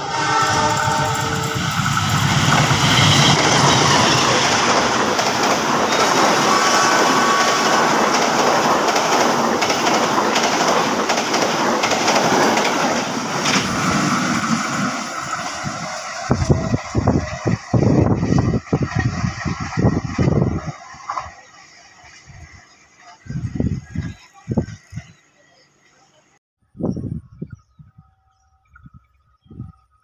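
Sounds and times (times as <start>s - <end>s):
train wheels rushing on rails: 0.0s - 26.0s.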